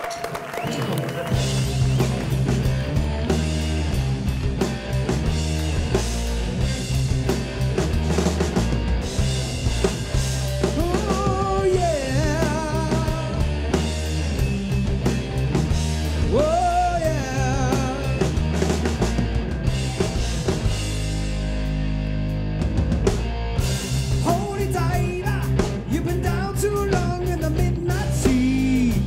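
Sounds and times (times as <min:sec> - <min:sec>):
live rock band playing: 0:00.0 - 0:29.0.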